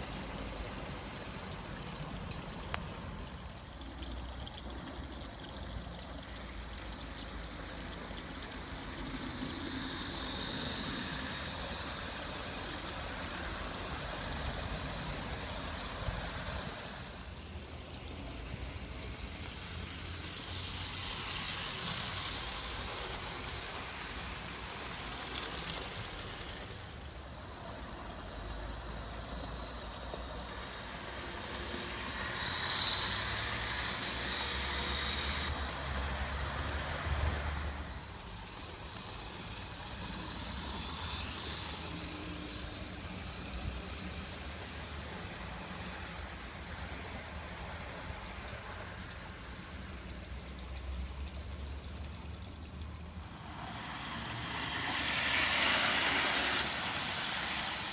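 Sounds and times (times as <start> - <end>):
model train motor hum: 0.0 - 57.9
model train wheels rumbling: 0.0 - 57.9.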